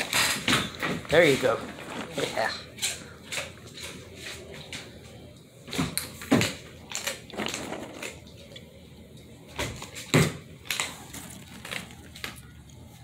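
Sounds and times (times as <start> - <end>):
dog eating treats on wooden floor: 0.0 - 13.0.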